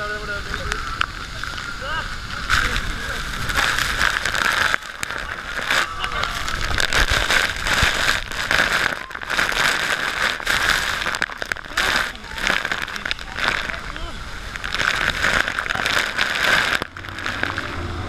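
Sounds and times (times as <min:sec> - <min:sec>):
waterfall spray rushing: 0:00.0 - 0:18.0.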